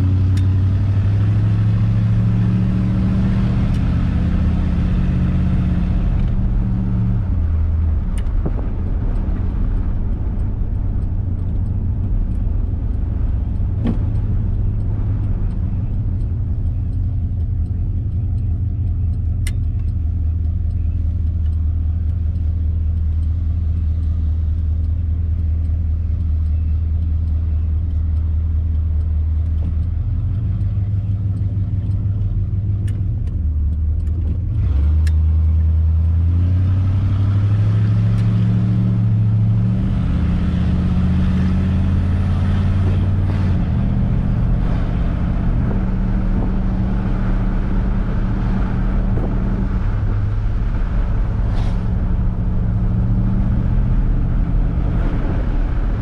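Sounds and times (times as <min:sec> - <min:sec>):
car engine droning: 0:00.0 - 0:56.0
road noise: 0:00.0 - 0:56.0
faint ticks: 0:07.9 - 0:56.0.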